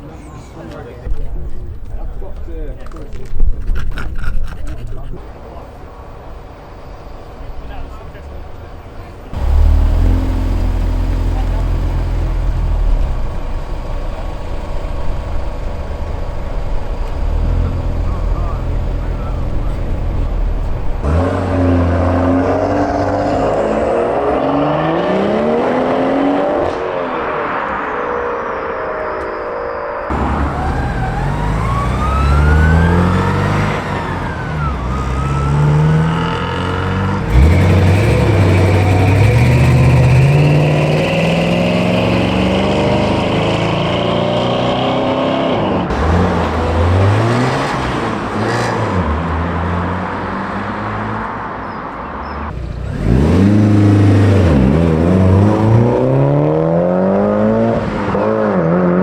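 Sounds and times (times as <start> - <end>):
car engines accelerating: 0.0 - 59.0.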